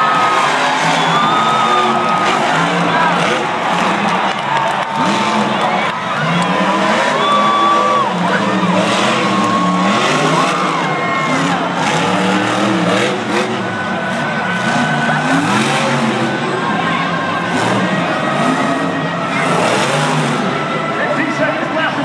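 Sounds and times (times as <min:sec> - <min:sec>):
stadium crowd noise: 0:00.0 - 0:22.0
truck engine revving hard: 0:00.0 - 0:22.0.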